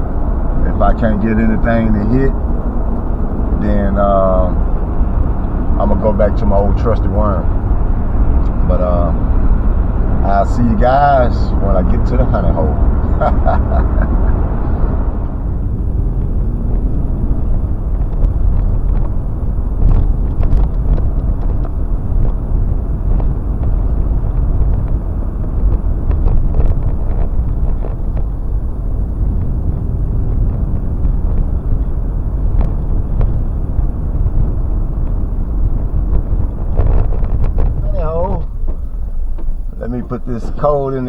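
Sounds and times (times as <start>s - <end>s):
road rumble inside vehicle: 0.0s - 41.0s.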